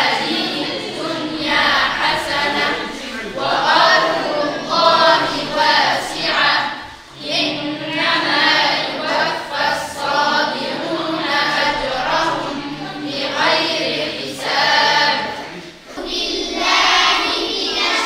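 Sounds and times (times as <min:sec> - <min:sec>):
children chanting in unison: 0:00.0 - 0:18.0.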